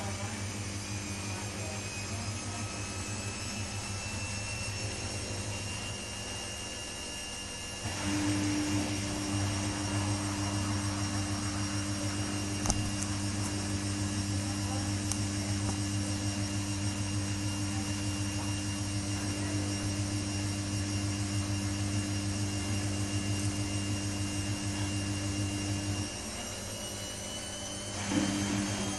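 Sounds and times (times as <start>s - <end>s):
washing machine drum motor whine: 0.0s - 28.9s.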